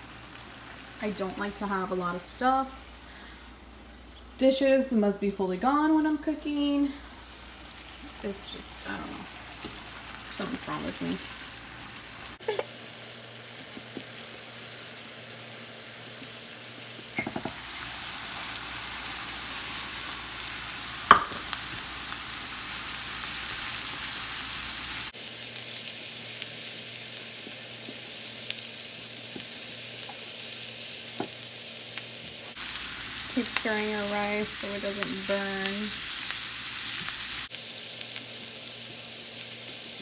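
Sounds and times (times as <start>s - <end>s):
rice sizzling in a pan: 0.0s - 4.0s, 7.0s - 40.0s.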